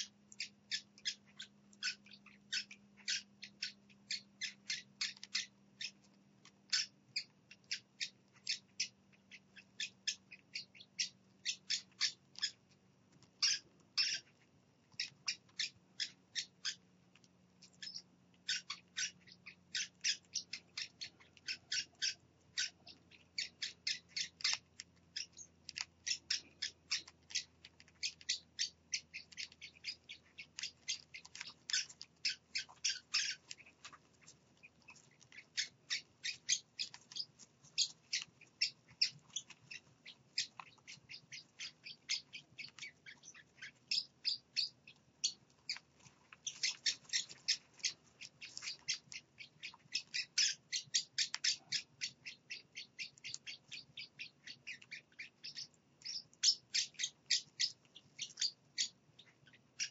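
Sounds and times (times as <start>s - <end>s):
parrot chicks peeping: 0.0s - 59.9s.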